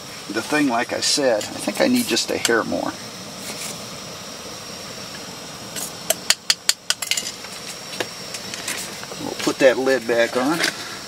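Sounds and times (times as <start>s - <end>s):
camp stove burner hissing: 0.0s - 11.0s.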